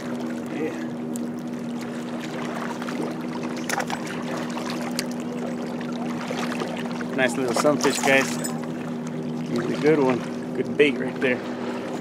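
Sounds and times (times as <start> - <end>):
motor drone: 0.0 - 12.0.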